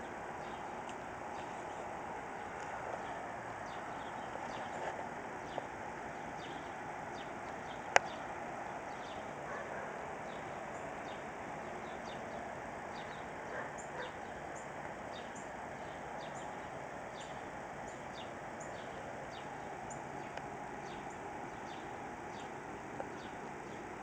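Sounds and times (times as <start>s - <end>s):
small birds chirping: 0.0s - 24.0s
steady background hum: 0.0s - 24.0s.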